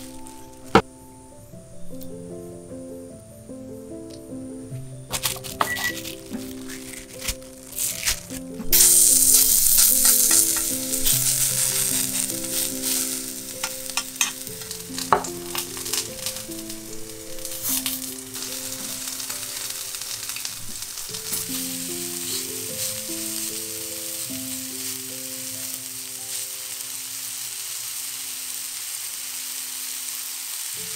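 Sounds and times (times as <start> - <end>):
light background music: 0.0 - 26.9
patties sizzling in frying pan: 5.2 - 30.9.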